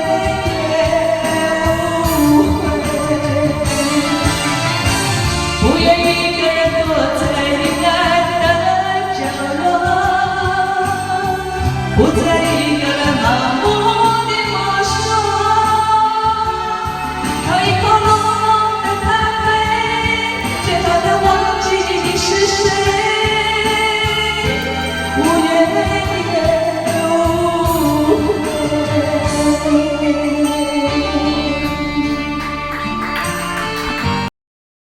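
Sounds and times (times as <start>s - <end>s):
pop ballad singing: 0.0s - 34.3s.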